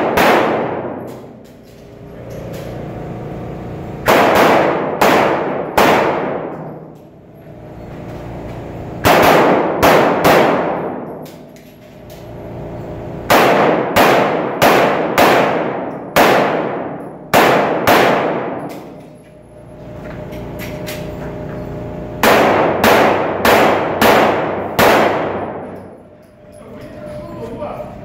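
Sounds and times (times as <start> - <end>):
pistol shots echoing indoors: 0.0 - 7.2, 8.5 - 19.7, 22.1 - 26.2.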